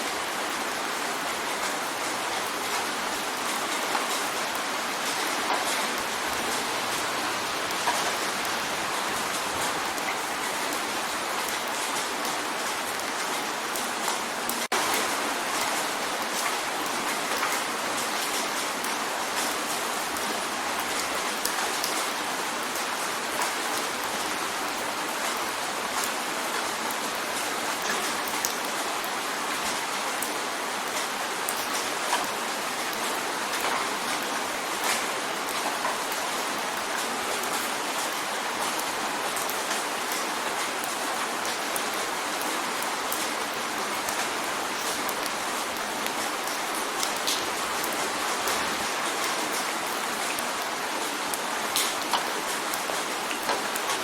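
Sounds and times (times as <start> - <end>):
rain drumming on a window: 0.0 - 54.0.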